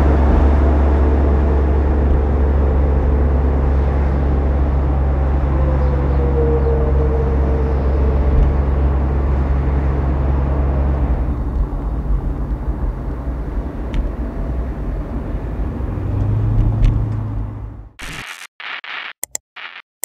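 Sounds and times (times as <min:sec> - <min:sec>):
truck diesel engine driving by: 0:00.0 - 0:18.0.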